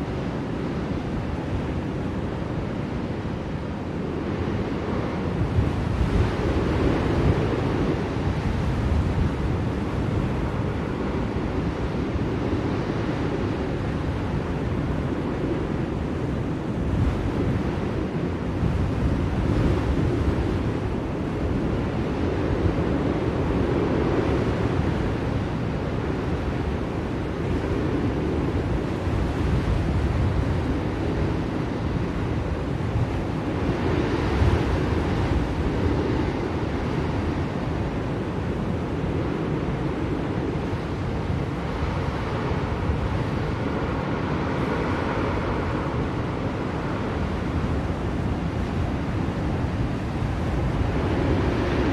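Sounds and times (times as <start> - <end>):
blizzard wind blowing: 0.0 - 51.9.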